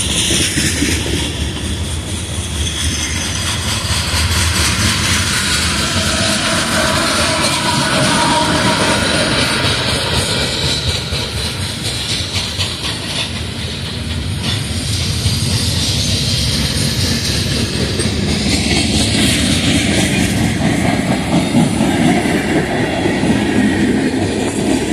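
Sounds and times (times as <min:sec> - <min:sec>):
train wheels on rails: 0:00.0 - 0:24.9
wheels clickety-clack: 0:00.0 - 0:24.9.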